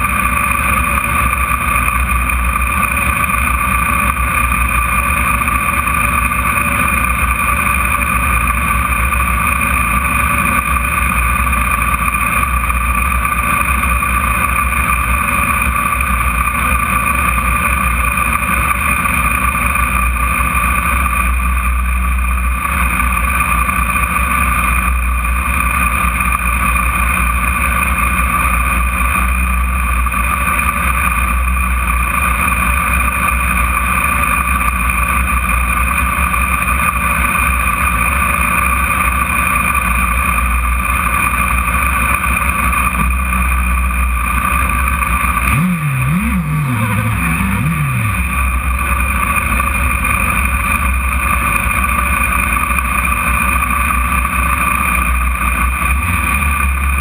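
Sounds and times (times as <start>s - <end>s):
sports car engine idling: 0.0s - 57.0s.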